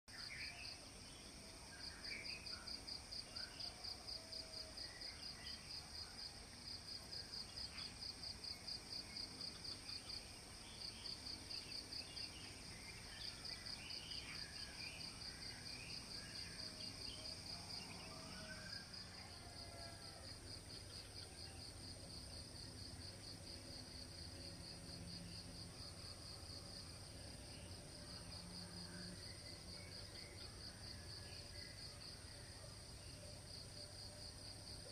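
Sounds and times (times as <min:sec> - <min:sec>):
insects chirping: 0:00.1 - 0:34.9.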